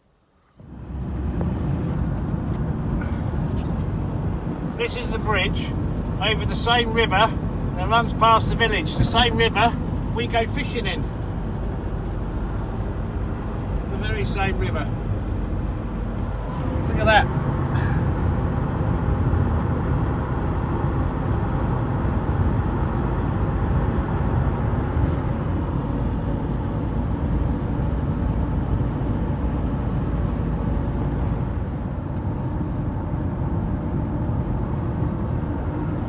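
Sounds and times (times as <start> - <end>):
van engine and road rumble: 0.0 - 36.0.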